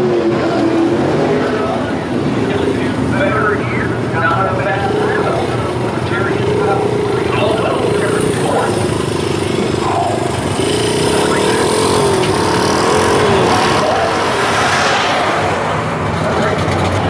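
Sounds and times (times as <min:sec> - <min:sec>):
drag car engine rolling past: 0:00.0 - 0:17.0
small engines riding by: 0:00.0 - 0:17.0.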